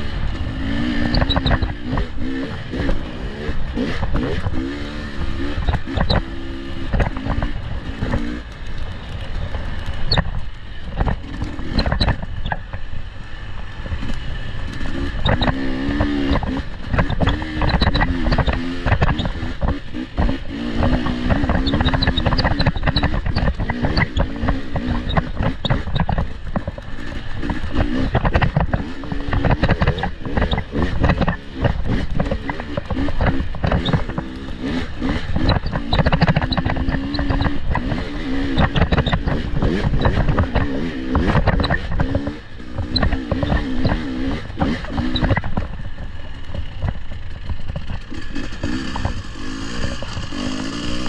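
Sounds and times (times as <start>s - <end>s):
off-road vehicle engine: 0.0s - 51.0s.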